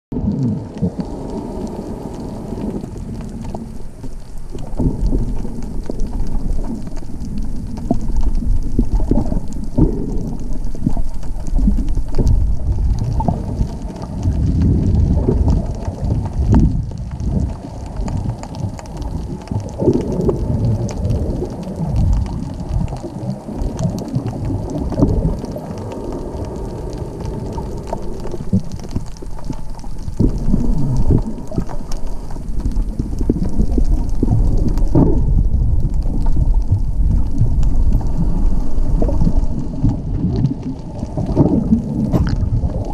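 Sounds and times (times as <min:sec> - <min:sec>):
underwater rumble and sloshing: 0:00.1 - 0:42.9
faint crackling: 0:00.2 - 0:42.9.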